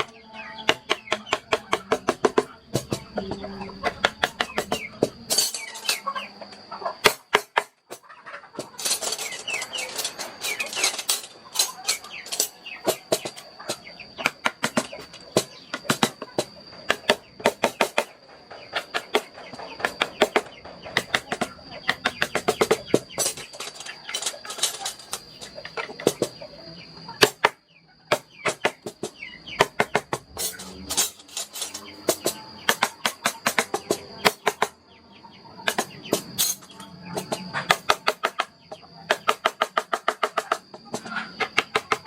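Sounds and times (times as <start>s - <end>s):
birds chirping: 0.0s - 7.3s, 7.9s - 42.0s.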